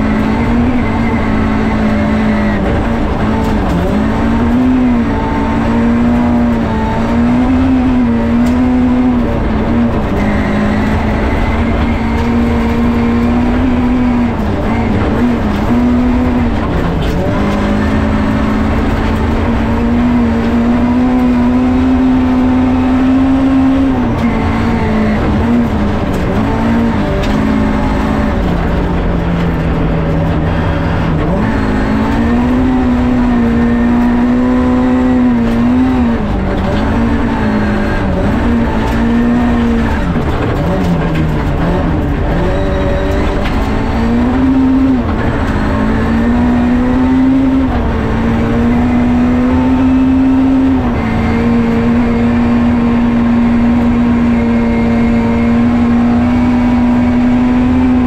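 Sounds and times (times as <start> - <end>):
tyres rumbling on gravel: 0.0 - 53.2
rally car engine at high revs: 0.0 - 58.0.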